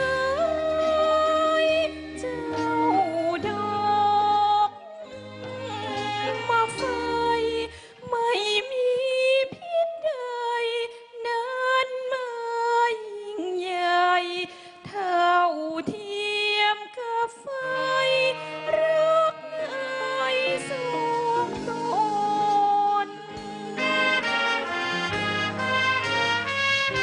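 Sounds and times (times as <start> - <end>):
woman singing: 0.0 - 26.3.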